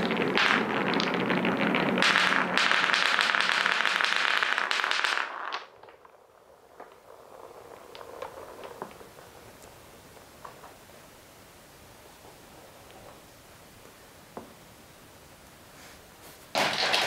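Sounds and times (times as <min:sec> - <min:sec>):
wooden balls rattling on wooden track: 0:00.0 - 0:14.6, 0:16.5 - 0:17.0.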